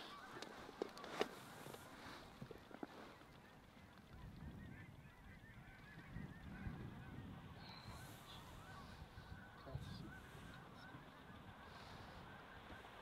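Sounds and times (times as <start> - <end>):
waterfowl calling: 0.0 - 13.0
wind rumbling on microphone: 0.1 - 13.0.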